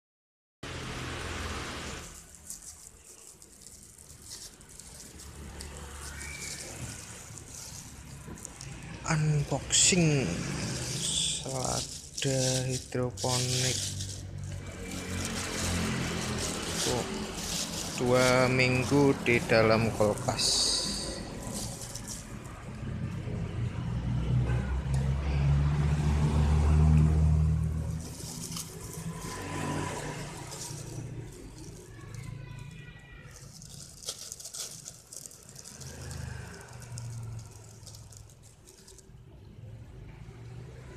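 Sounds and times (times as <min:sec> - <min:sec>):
vehicle engine running: 0:00.6 - 0:40.9
plastic bag crinkling: 0:00.7 - 0:23.2, 0:27.1 - 0:39.2.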